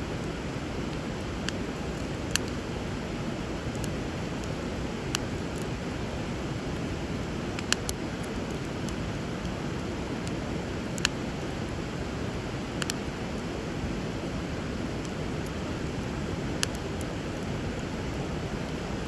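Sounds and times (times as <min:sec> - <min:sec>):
wood fire crackling: 0:00.0 - 0:19.0
fire popping: 0:00.1 - 0:19.0.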